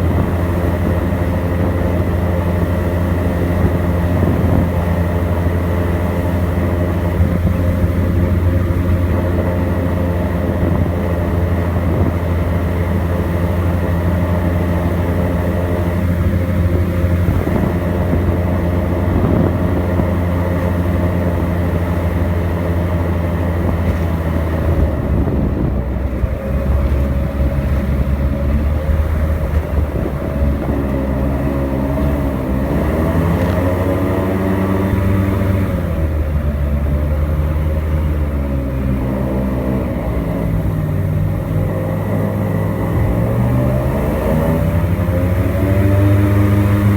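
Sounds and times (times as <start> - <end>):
airboat engine and propeller: 0.0 - 46.9.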